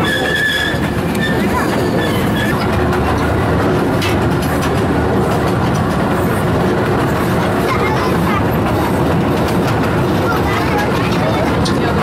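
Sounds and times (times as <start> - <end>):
moving vehicle running noise: 0.1 - 12.0.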